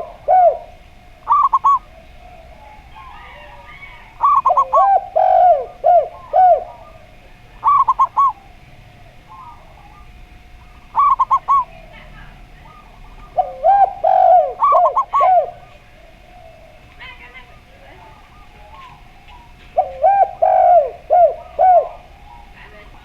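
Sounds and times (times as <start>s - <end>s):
dove quick coos: 0.0s - 22.8s
dove drawn-out low coos: 0.0s - 23.0s.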